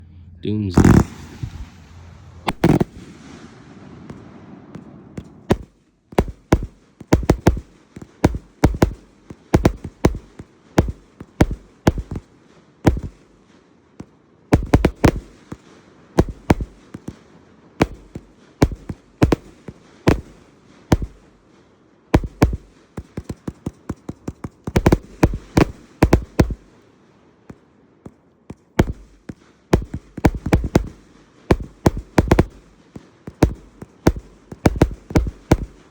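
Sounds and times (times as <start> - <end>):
firework cake firing: 0.7 - 35.9.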